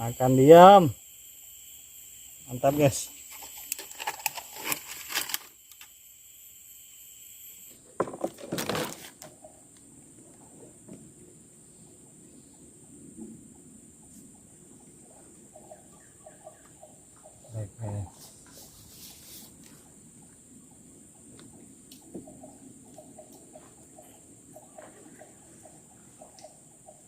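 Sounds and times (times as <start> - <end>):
forest insects droning: 0.0 - 27.0.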